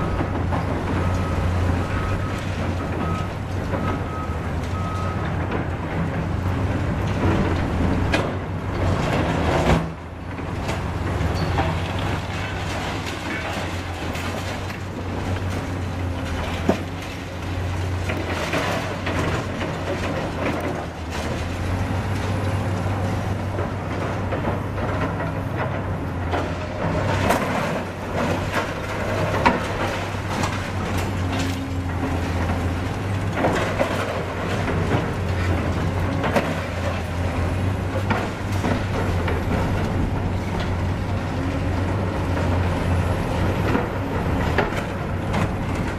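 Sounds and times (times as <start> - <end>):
excavator diesel engines: 0.0 - 45.9.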